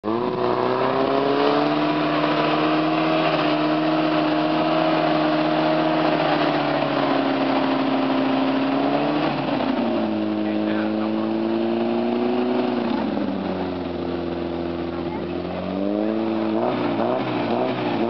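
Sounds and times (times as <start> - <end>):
vehicle engine revving hard: 0.0 - 18.0.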